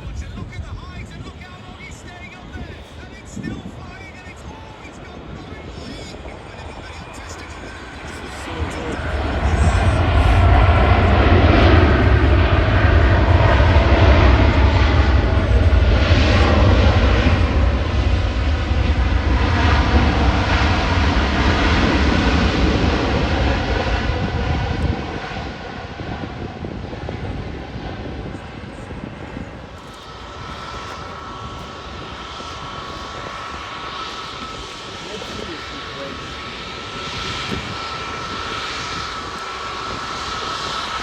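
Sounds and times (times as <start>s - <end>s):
jet engines roaring: 0.0s - 41.0s.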